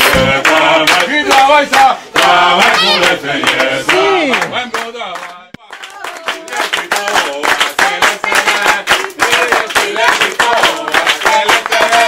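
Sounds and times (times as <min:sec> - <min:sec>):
people clapping along: 0:00.0 - 0:12.0
voices singing along: 0:00.0 - 0:12.0.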